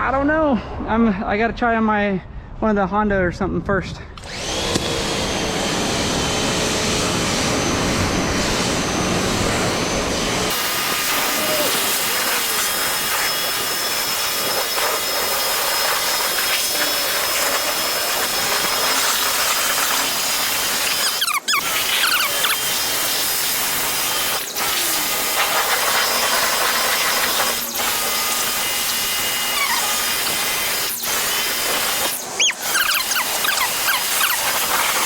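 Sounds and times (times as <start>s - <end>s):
car wash equipment hissing: 4.3s - 35.0s.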